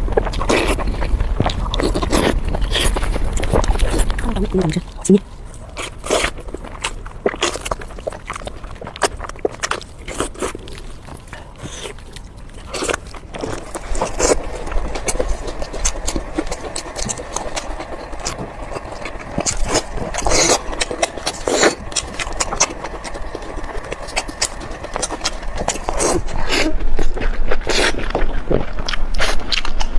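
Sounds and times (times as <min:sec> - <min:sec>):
wet chewing: 0:00.0 - 0:29.9.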